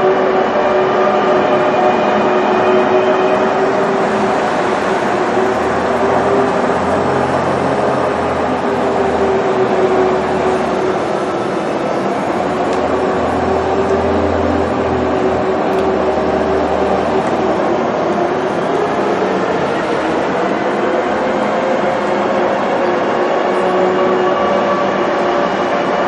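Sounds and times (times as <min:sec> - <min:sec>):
ice resurfacer engine drone: 0:00.0 - 0:26.0.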